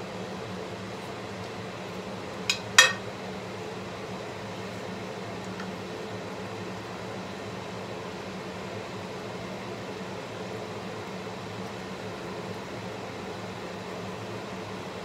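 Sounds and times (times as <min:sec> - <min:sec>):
range hood fan humming: 0:00.0 - 0:15.0.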